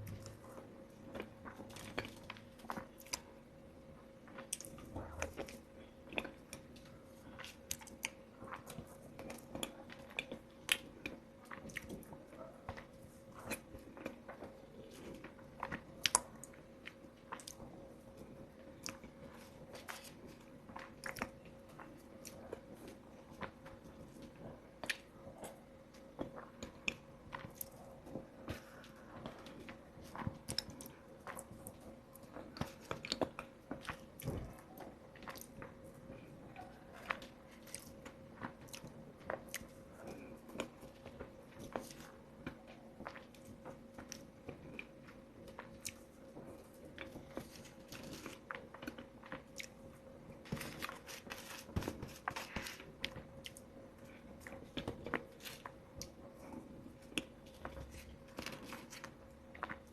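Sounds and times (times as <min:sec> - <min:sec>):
chewing and biting soft cake: 0:00.0 - 0:59.9
faint steady hum: 0:00.0 - 0:59.9.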